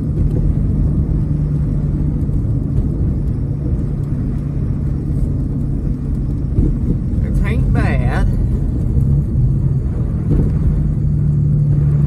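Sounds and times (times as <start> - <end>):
low engine drone: 0.0 - 12.0
tyre and road rumble: 0.0 - 12.0.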